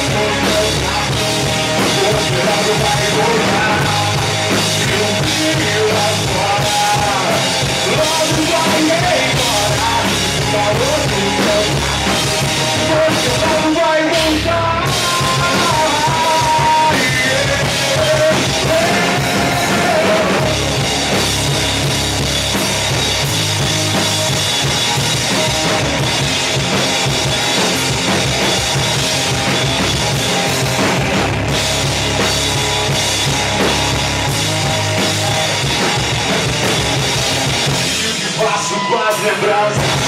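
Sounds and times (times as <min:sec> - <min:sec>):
rock band playing: 0:00.0 - 0:40.0.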